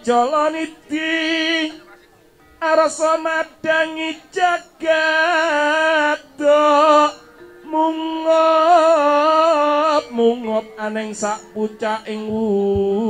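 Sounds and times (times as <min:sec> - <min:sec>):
person singing slow verse: 0:00.0 - 0:13.0.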